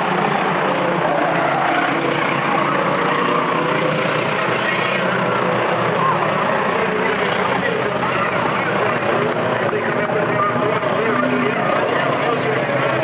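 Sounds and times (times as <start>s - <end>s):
racing truck engines droning: 0.0s - 13.0s.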